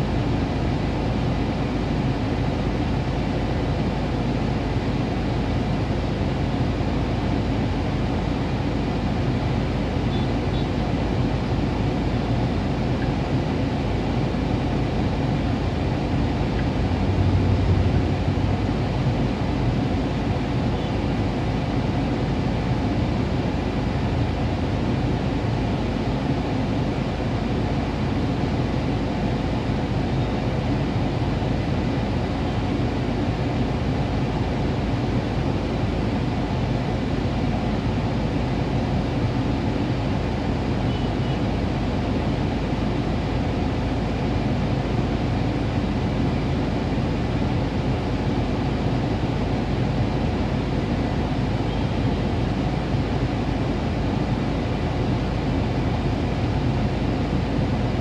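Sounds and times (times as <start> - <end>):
street traffic: 0.0 - 58.0
vehicle idling rumble: 0.0 - 58.0.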